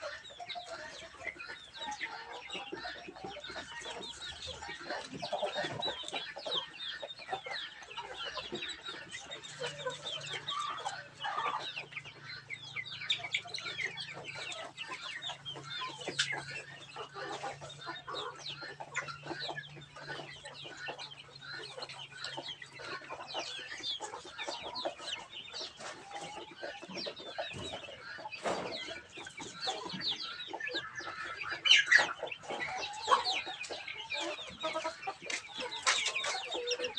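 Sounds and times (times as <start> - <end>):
young chickens clucking and peeping: 0.0 - 36.9.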